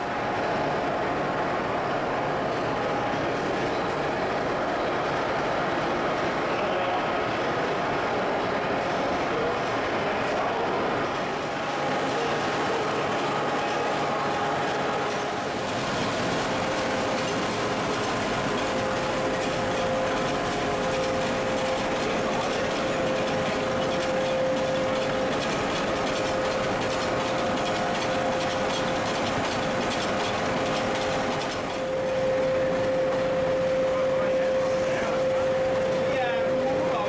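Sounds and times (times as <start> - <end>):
machinery running with steady whine: 0.0 - 37.0.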